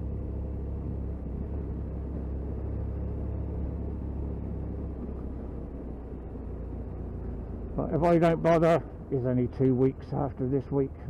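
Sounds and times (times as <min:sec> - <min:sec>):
motorcycle engine rumble: 0:00.0 - 0:11.0
road noise: 0:00.0 - 0:11.0.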